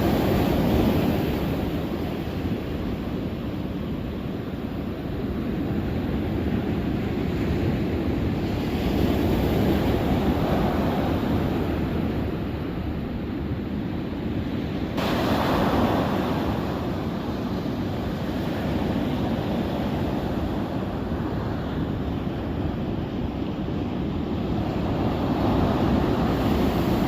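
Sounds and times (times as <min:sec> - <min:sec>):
ocean surf washing onto beach: 0:00.0 - 0:27.0
wind buffeting microphone: 0:00.0 - 0:27.0.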